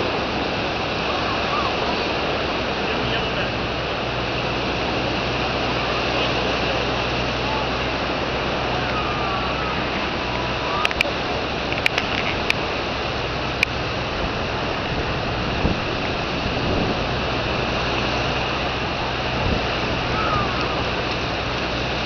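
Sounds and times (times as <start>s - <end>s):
small surf breaking on beach: 0.0s - 22.0s
wind on microphone: 0.0s - 22.0s.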